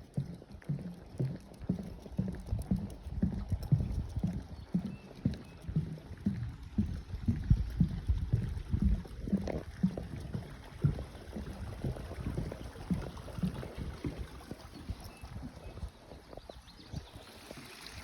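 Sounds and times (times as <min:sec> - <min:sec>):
footsteps on woodland trail: 0:00.0 - 0:17.9.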